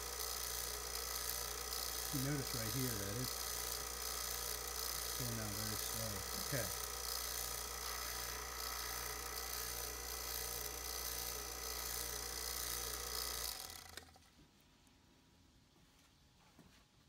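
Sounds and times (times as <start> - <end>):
vacuum pump humming: 0.0 - 14.3.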